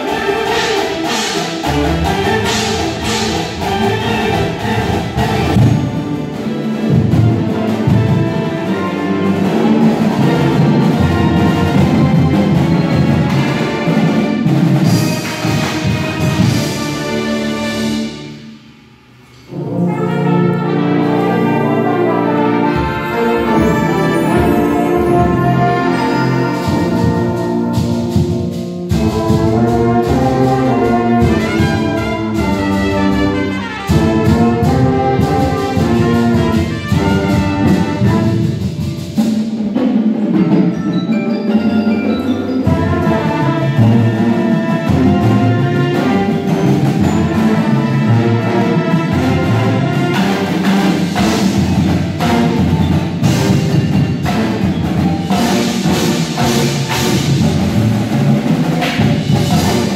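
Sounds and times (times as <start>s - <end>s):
brass band playing: 0.0s - 59.9s
drums and mallet percussion: 0.0s - 59.9s.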